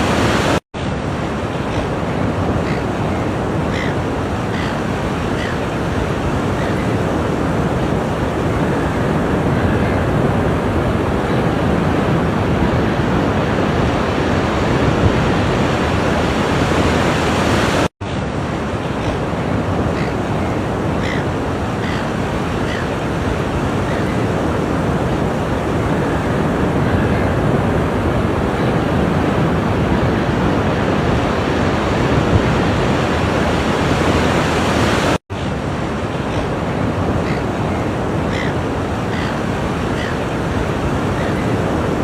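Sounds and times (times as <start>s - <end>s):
ocean surf washing ashore: 0.0s - 42.0s.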